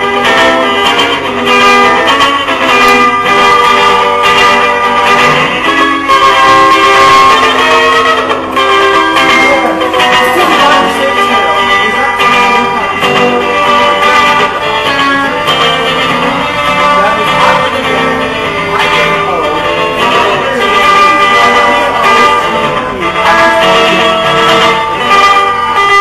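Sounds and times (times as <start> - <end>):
instrumental guitar music: 0.0 - 26.0.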